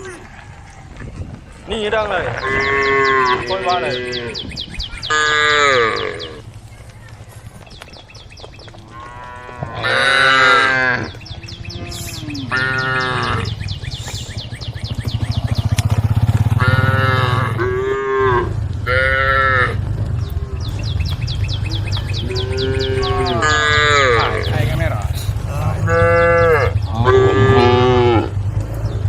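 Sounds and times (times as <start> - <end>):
low rumble: 0.0 - 29.0
cows mooing: 1.8 - 6.4, 8.8 - 14.3, 14.9 - 29.0.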